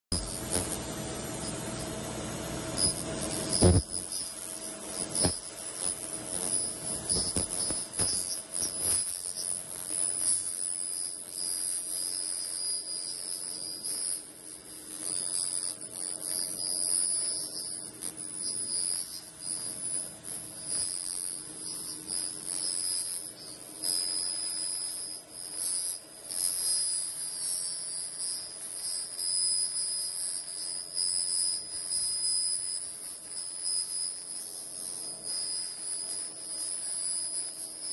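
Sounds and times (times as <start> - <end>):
laser cleaner buzzing and hissing: 0.1 - 37.9.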